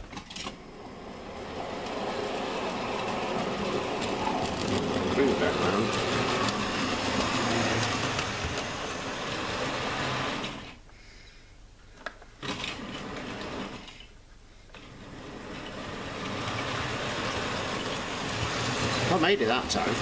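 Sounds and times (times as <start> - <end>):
model train wheels on track: 0.0 - 10.8, 12.0 - 20.0.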